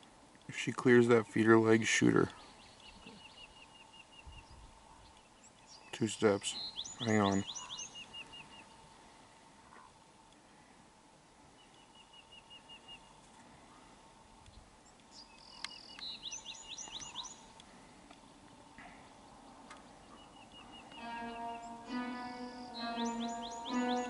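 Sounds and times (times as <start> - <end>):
faint songbird singing: 0.7 - 10.8, 11.4 - 24.0.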